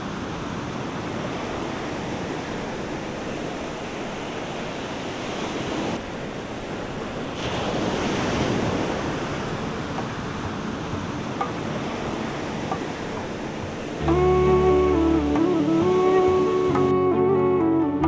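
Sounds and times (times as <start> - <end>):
ocean surf on rocky shore: 0.0 - 17.6.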